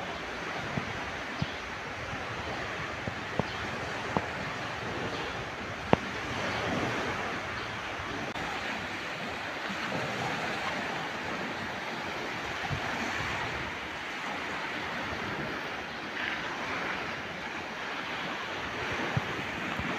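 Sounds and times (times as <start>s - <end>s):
sea waves breaking on shore: 0.0s - 19.9s.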